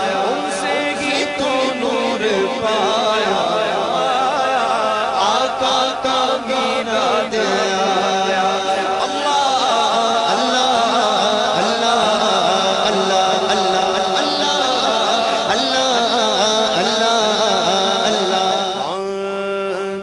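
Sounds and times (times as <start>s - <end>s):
man chanting devotional song: 0.0s - 20.0s.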